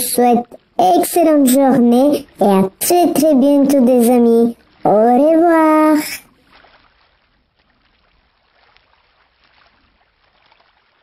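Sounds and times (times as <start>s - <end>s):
soft crackles: 0.0s - 11.0s.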